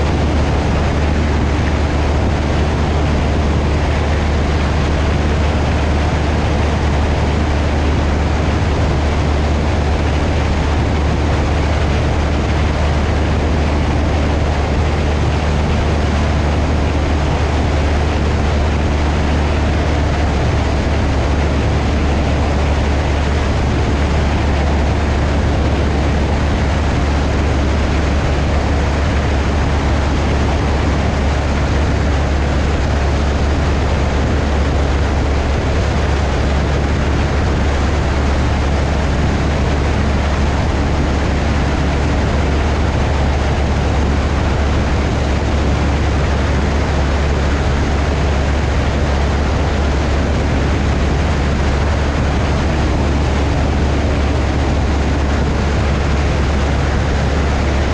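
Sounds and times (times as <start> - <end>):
plane engine and propeller droning: 0.0 - 57.9
wind noise: 0.0 - 57.9.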